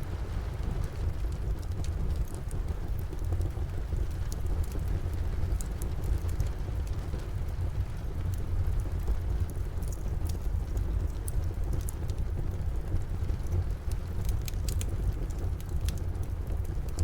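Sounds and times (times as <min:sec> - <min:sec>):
steady rain falling: 0:00.0 - 0:17.0
wood fire crackling and popping: 0:00.2 - 0:17.0.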